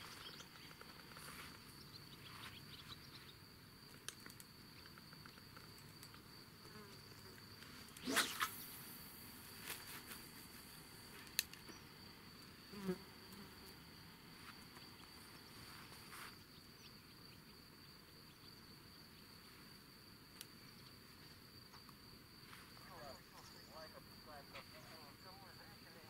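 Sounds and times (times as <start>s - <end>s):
high-pitched insect trill: 0.0s - 26.0s.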